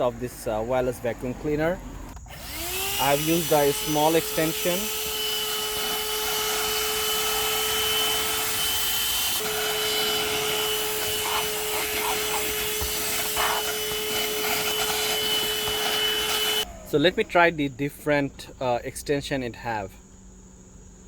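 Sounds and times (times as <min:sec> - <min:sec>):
handheld vacuum whine: 0:00.0 - 0:17.3.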